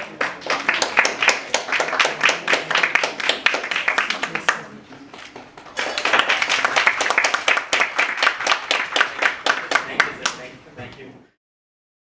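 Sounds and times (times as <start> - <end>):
group of people clapping: 0.0 - 10.5.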